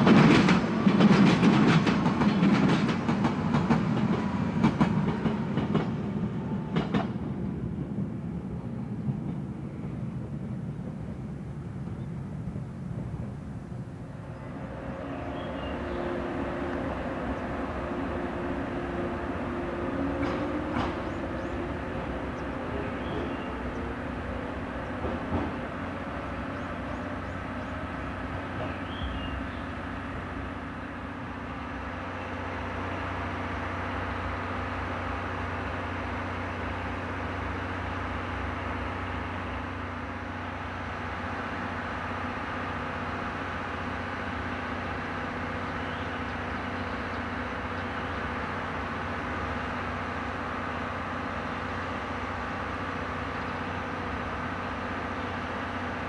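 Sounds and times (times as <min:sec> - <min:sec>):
diesel train engine droning: 0:00.0 - 0:56.0.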